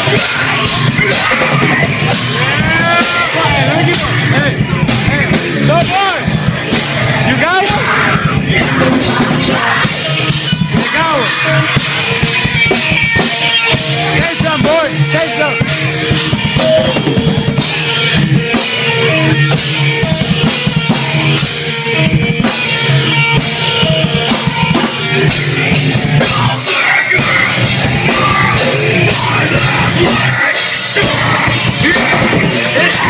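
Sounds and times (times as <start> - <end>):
drum and cymbal hits: 0.0 - 33.0
live band playing: 0.0 - 33.0.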